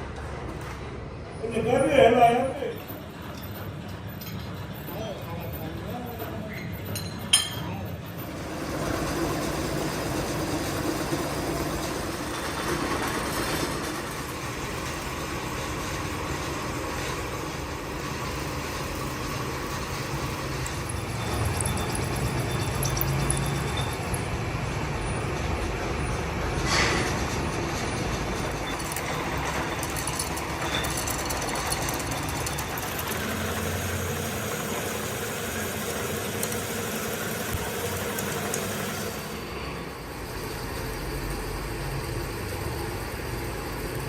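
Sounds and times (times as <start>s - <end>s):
workshop machinery running: 0.0s - 44.0s.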